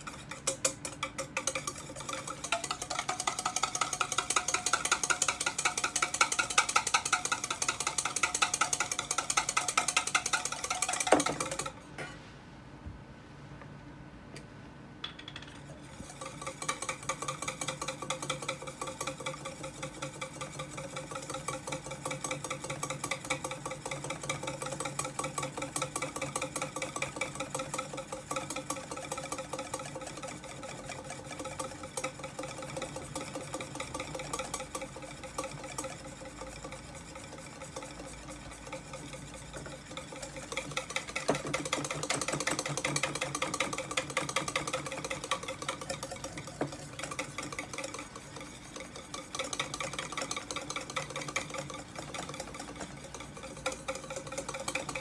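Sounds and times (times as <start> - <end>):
wire whisk beating in metal bowl: 0.0 - 11.8, 15.1 - 55.0.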